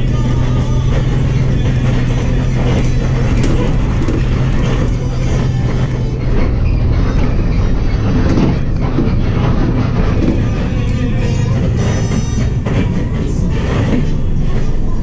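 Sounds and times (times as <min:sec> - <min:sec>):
bus body rattles: 0:00.0 - 0:15.0
bus engine drone: 0:00.0 - 0:15.0
road noise: 0:00.0 - 0:15.0.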